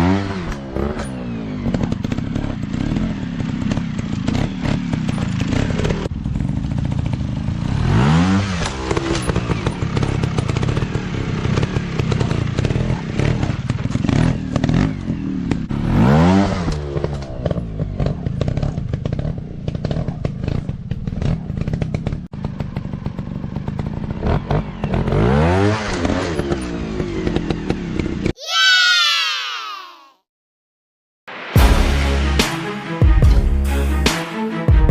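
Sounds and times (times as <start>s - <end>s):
dirt bike engine revving: 0.0s - 28.3s.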